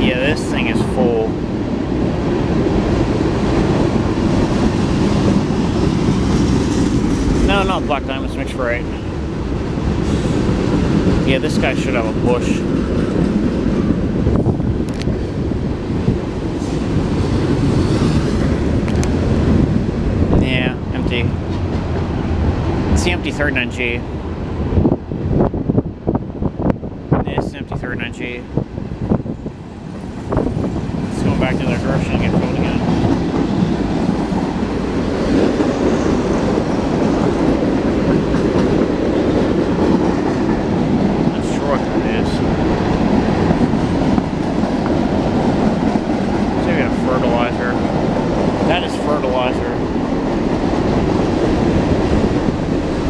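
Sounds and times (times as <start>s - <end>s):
freight cars rolling on rails: 0.0s - 26.7s, 28.6s - 53.0s.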